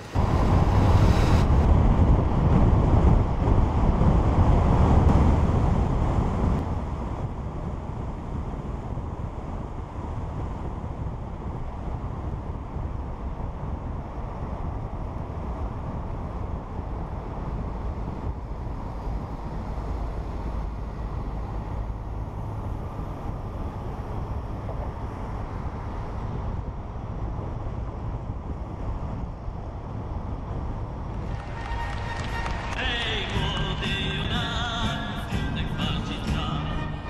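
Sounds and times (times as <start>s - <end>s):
car driving on road: 0.0s - 37.0s
wind buffeting microphone: 0.0s - 37.0s.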